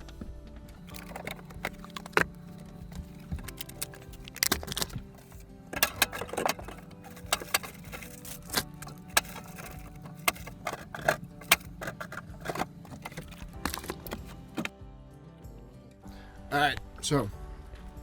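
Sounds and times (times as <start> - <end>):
household items clattering: 0.0 - 14.8
background music: 0.0 - 18.0.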